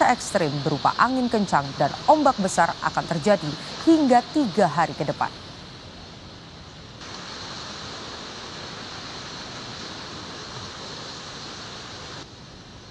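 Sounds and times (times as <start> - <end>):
ocean surf: 0.0 - 12.9
wind: 0.0 - 12.9.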